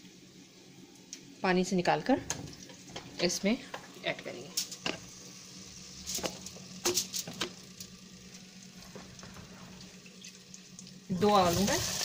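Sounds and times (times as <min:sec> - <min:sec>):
faint oil sizzle: 0:00.0 - 0:12.0.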